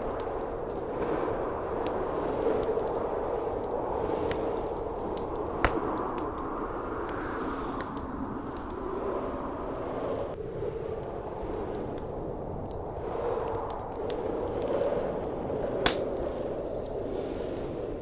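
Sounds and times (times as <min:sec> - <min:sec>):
blizzard wind rushing: 0:00.0 - 0:18.0
loud crack of fire: 0:00.0 - 0:18.0
wood fire crackling: 0:00.0 - 0:18.0.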